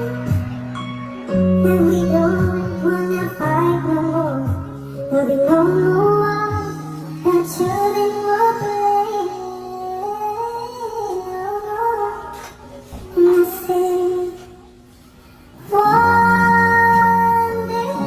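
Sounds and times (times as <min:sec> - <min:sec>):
woman singing slow melody: 0:00.0 - 0:14.8, 0:15.5 - 0:18.0.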